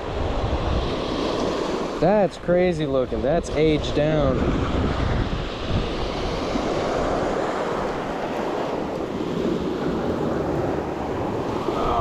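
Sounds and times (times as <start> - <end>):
waves washing onto beach: 0.0 - 12.0
wind rumbling on microphone: 0.0 - 12.0.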